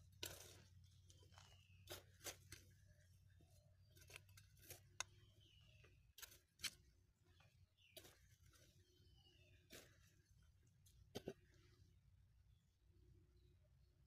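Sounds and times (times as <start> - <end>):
scrapes and clicks in soil: 0.0 - 12.6.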